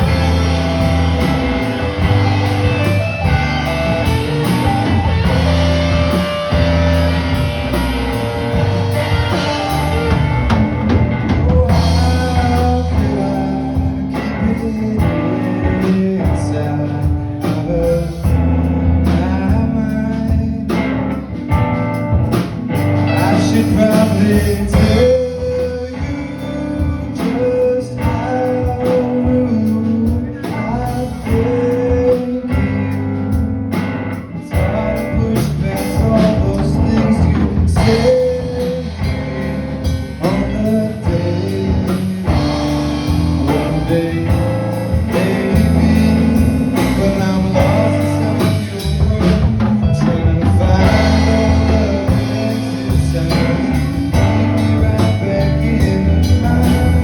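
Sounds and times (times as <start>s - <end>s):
person singing: 0.0s - 21.4s, 23.0s - 33.4s, 34.2s - 57.0s
drum kit: 0.0s - 57.0s
electric guitar: 0.0s - 57.0s.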